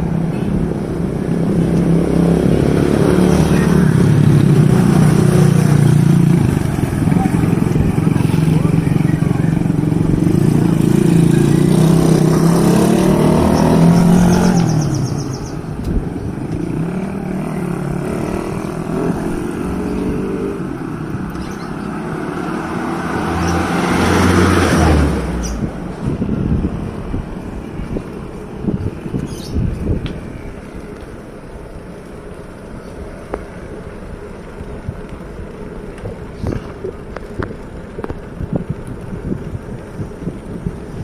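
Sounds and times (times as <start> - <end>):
vehicles passing on road: 0.0 - 41.0.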